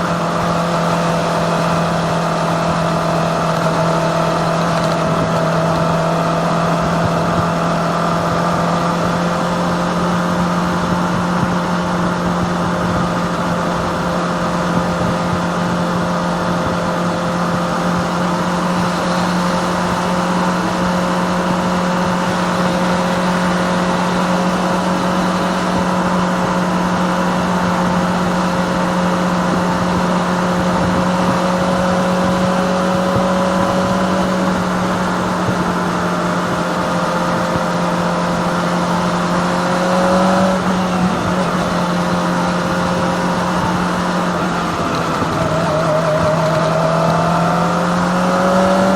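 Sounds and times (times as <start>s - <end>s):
motorcycle engine cruising: 0.0s - 48.9s
road and wind noise: 0.0s - 48.9s.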